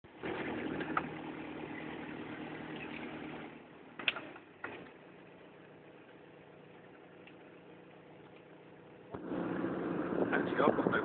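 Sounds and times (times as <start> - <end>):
boat engine idling: 0.1 - 11.0.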